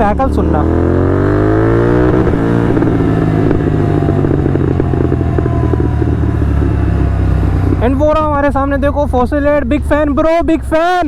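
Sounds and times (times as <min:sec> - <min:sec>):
exhaust crackles and pops: 0:00.0 - 0:10.2
motorcycle engine decelerating: 0:00.0 - 0:10.6.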